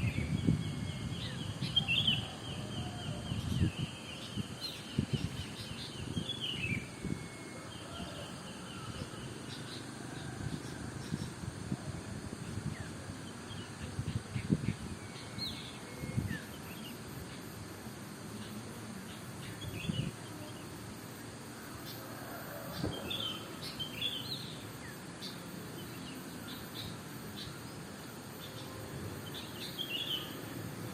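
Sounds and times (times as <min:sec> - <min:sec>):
songbirds chirping: 0:00.0 - 0:30.9
steady background hiss: 0:00.0 - 0:30.9.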